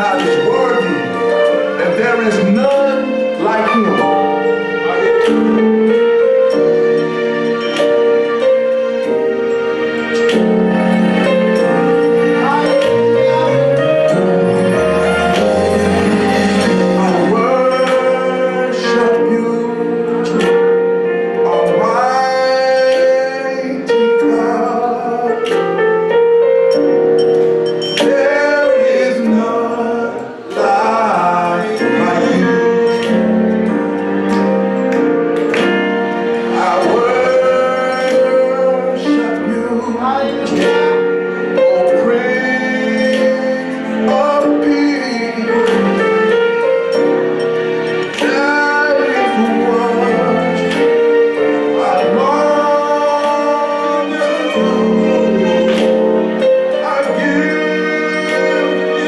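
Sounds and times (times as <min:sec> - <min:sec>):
gospel worship music with singing: 0:00.0 - 0:59.0.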